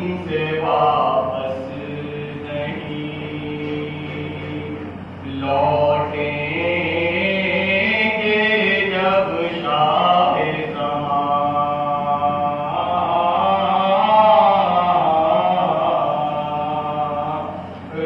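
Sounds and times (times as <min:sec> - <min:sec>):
man singing unaccompanied lament: 0:00.0 - 0:18.0.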